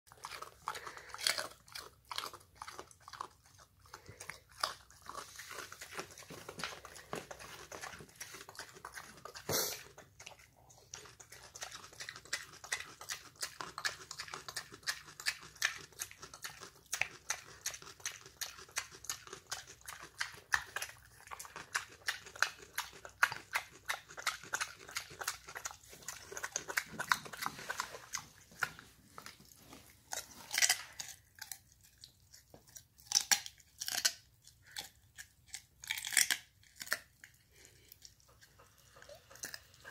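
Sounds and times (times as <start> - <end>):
pig chewing carrot: 0.1 - 39.9.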